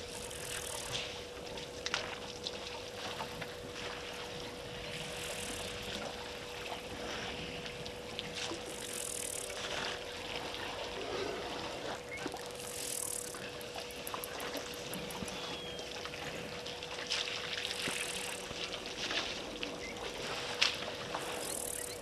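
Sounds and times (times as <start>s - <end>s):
faint steady hum: 0.0s - 22.0s
water trickling and splashing: 0.0s - 22.0s.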